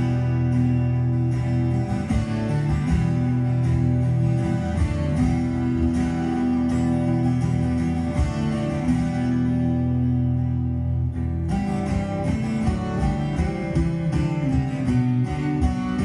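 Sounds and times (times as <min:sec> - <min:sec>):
acoustic guitars picking chords: 0:00.0 - 0:16.0.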